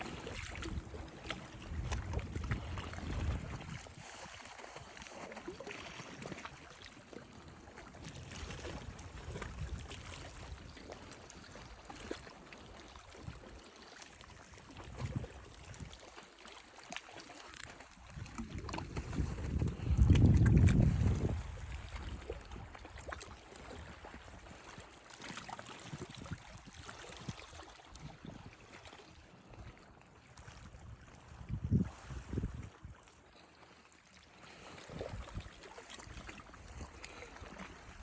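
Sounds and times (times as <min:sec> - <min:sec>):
water lapping and trickling: 0:00.0 - 0:38.0.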